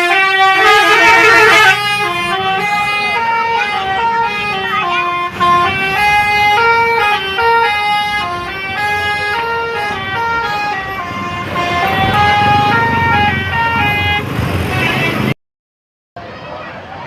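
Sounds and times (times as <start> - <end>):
bus engine rumble: 0.0 - 15.4
multi-tone bus horn melody: 0.0 - 15.4.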